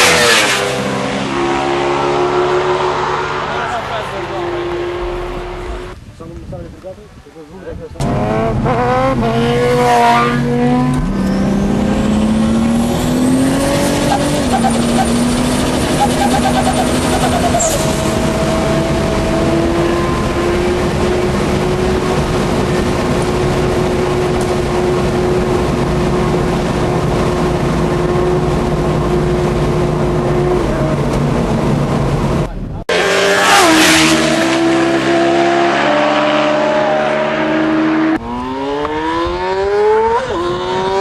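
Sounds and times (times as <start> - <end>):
wind and road noise: 0.0 - 41.0
vehicle engine revving through gears: 8.0 - 41.0.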